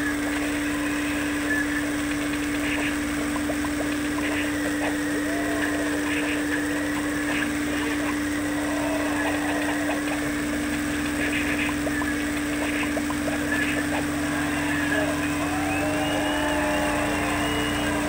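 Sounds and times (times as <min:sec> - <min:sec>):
rc car motor hum: 0:00.0 - 0:18.0
tyres rumbling on pavement: 0:00.0 - 0:18.0.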